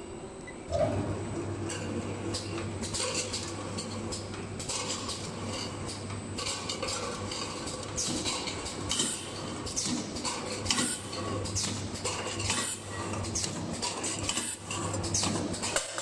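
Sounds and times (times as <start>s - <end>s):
cans clattering on conveyor: 1.8s - 16.0s.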